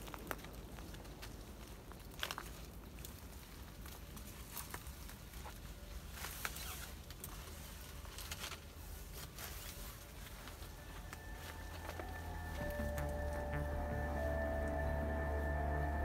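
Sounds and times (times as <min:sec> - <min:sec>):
twigs crunching and clicking: 0:00.0 - 0:14.8
footsteps in dry leaves: 0:00.0 - 0:15.8.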